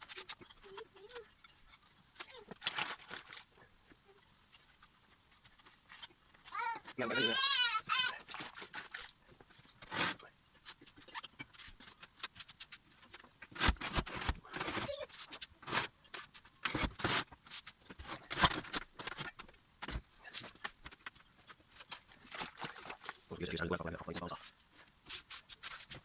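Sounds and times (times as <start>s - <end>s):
scrubbing and scraping: 0.0s - 19.4s, 20.1s - 26.0s.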